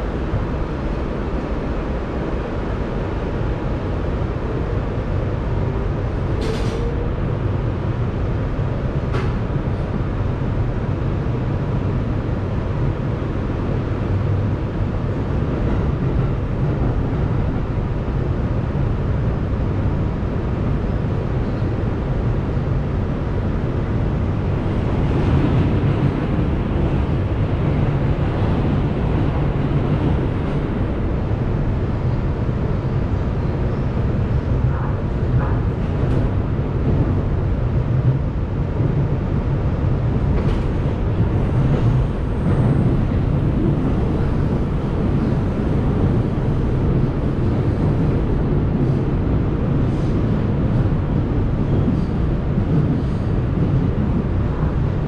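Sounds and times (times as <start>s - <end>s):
subway wheels rumbling on rail: 0.0s - 55.0s.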